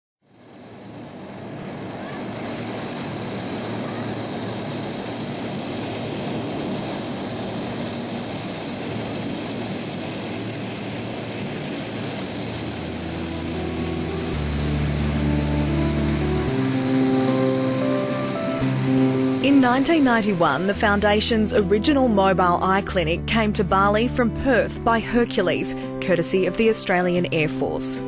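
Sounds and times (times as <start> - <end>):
turboprop engines whining: 0.3 - 27.4
propeller rush: 0.4 - 27.2.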